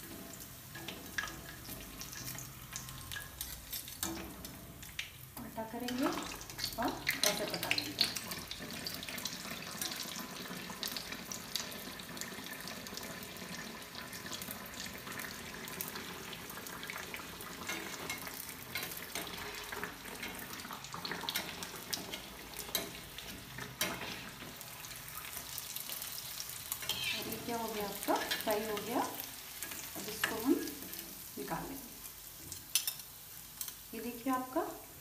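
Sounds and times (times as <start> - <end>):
hot oil sizzling and crackling: 0.0 - 35.0.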